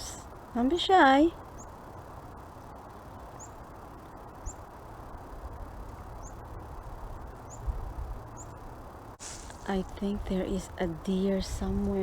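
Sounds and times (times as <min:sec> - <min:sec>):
low rumbling noise: 0:00.0 - 0:12.0
chickadees chirping: 0:01.4 - 0:12.0.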